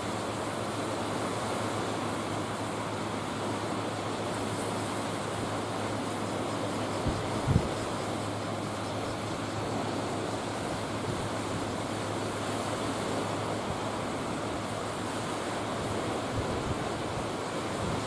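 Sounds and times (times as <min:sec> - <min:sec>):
sea water rushing: 0:00.0 - 0:18.0
wind: 0:00.0 - 0:18.0.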